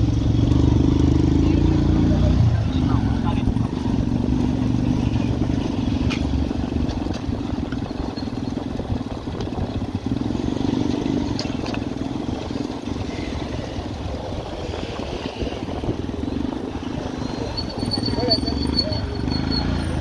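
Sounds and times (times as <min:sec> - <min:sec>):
motorcycle engine running: 0:00.0 - 0:20.0
street noise: 0:00.0 - 0:20.0.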